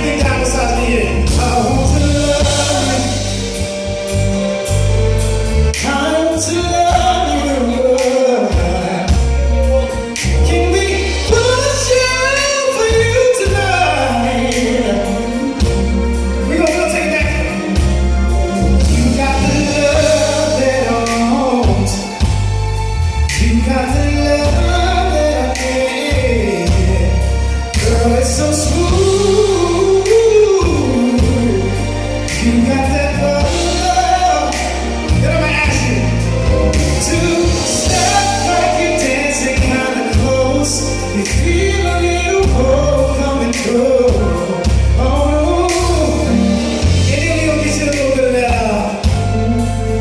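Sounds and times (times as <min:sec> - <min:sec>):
band backing with heavy bass: 0:00.0 - 0:50.0.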